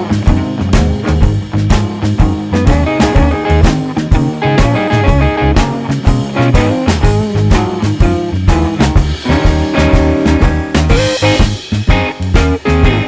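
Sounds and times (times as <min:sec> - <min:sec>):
rock music with electric guitar: 0:00.0 - 0:13.0.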